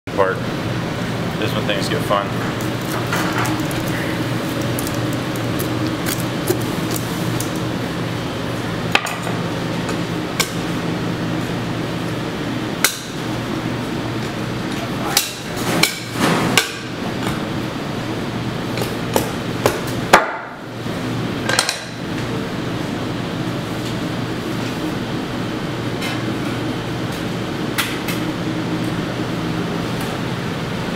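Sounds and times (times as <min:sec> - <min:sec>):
steady background hum: 0:00.1 - 0:30.9.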